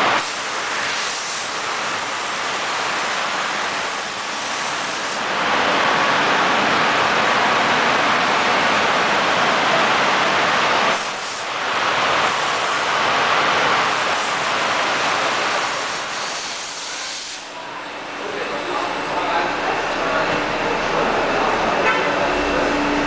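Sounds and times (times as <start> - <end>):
car wash machine rushing: 0.0 - 23.0.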